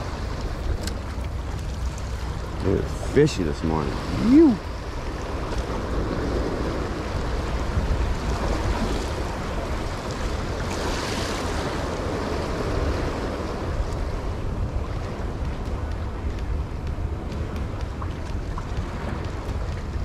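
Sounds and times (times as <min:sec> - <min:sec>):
small waves washing against rocks: 0:00.0 - 0:20.0
wind rumbling on microphone: 0:00.0 - 0:20.0.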